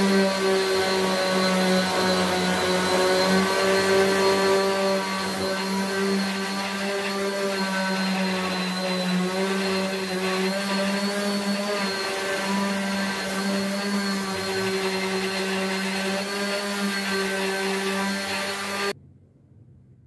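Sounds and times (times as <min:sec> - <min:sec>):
orbital sander motor hum: 0:00.0 - 0:19.0
sanding disc hissing on wood: 0:00.0 - 0:19.0.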